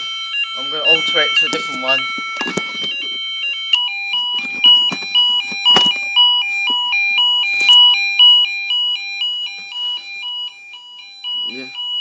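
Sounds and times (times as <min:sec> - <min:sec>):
two-tone fire alarm: 0:00.0 - 0:12.0.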